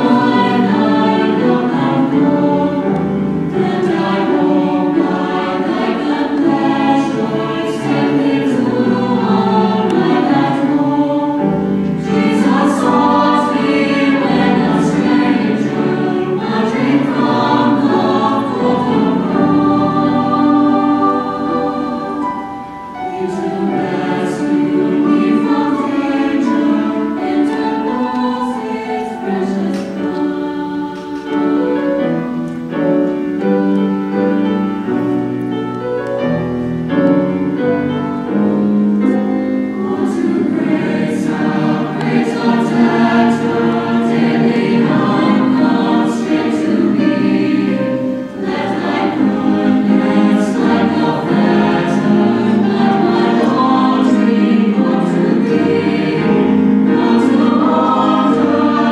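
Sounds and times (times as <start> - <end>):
choir singing held notes: 0.0 - 58.9.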